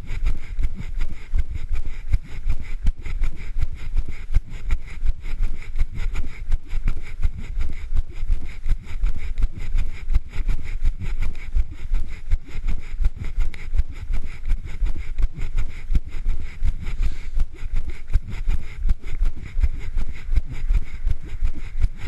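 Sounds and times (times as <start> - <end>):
running footsteps: 0.0 - 22.0.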